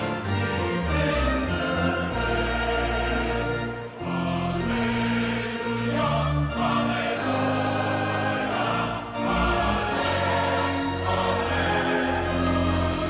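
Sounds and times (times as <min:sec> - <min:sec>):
choir singing with orchestra: 0:00.0 - 0:13.0.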